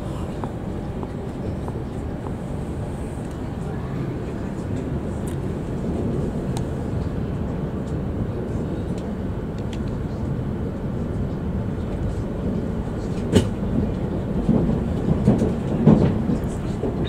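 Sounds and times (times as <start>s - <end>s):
train rumble inside cabin: 0.0s - 17.0s.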